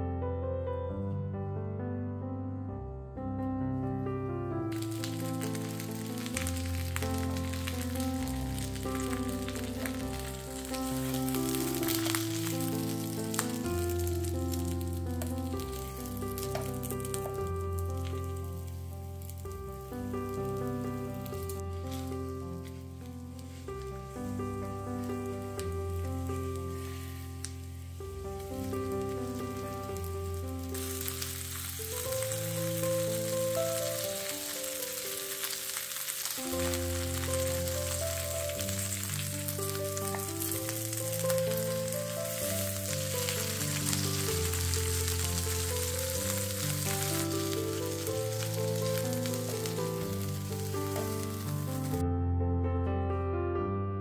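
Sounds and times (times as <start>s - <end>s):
gentle background music: 0.0s - 54.0s
food sizzling in a pan: 4.7s - 52.0s.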